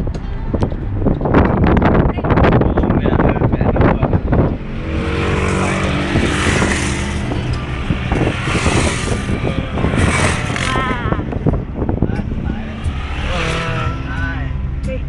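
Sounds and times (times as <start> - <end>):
car engine running: 0.0 - 15.0
tyre and road noise: 0.0 - 15.0.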